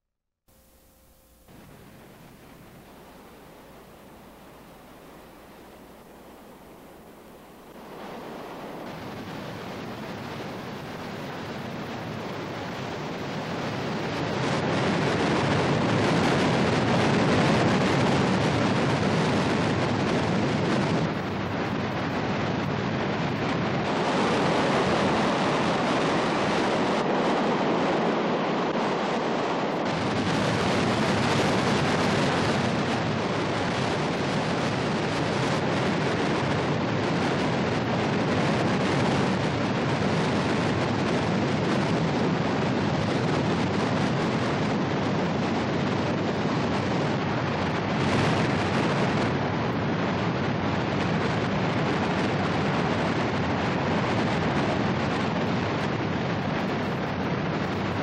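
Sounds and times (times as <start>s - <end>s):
water rushing: 1.5s - 58.0s.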